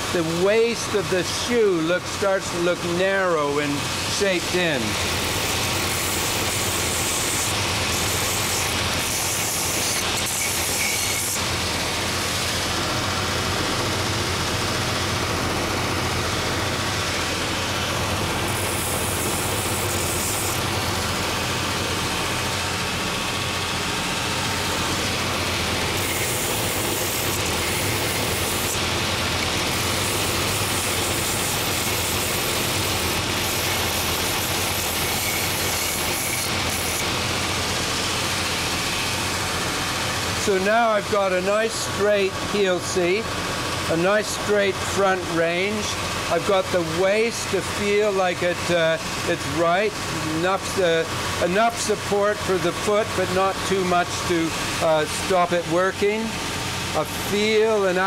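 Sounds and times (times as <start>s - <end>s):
belt sanding machine running: 0.0s - 58.0s.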